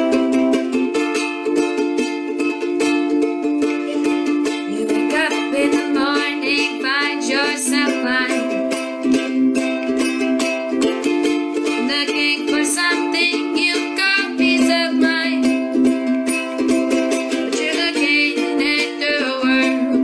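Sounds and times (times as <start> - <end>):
ukulele strumming: 0.0 - 20.0.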